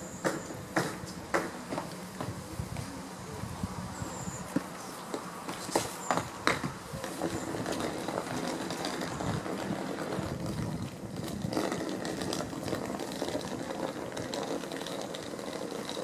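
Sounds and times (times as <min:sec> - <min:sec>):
diesel rail machine running: 0:00.0 - 0:16.0.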